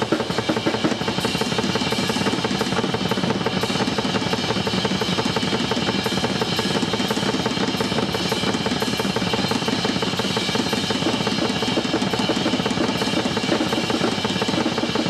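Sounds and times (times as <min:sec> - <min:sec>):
rapid drum strokes: 0:00.0 - 0:15.0
ringing cymbals: 0:00.0 - 0:15.0.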